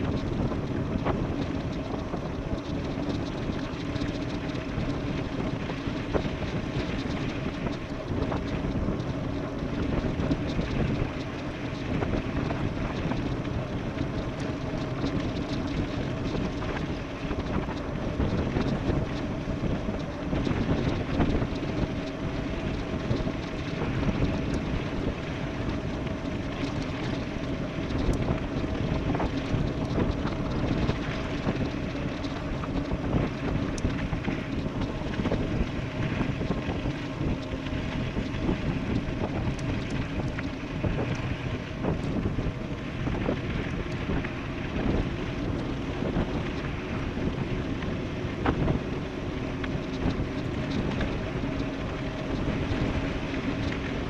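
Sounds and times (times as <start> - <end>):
steady low hum: 0.0 - 54.0
wind rushing over microphone: 0.0 - 54.0.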